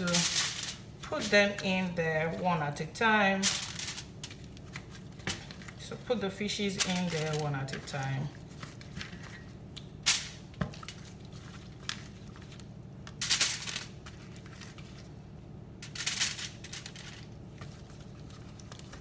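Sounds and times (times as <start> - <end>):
aluminium foil crinkling: 0.0 - 19.0.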